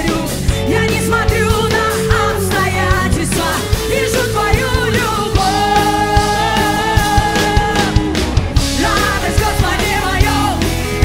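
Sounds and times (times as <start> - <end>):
rock band playing: 0.0 - 11.0
woman singing: 0.0 - 11.0.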